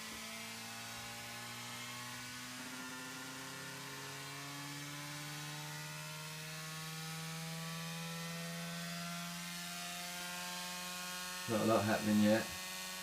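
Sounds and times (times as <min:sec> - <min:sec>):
motor buzzing whine rising: 0:00.0 - 0:13.0.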